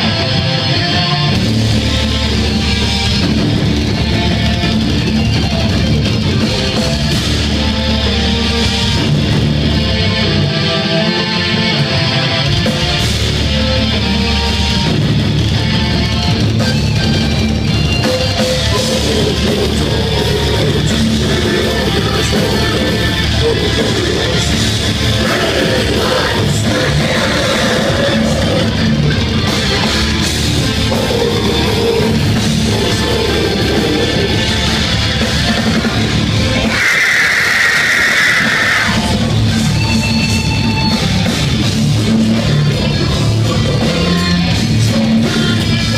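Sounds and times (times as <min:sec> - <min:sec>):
death metal band playing: 0:00.0 - 0:45.9
vocals over metal music: 0:00.0 - 0:45.9.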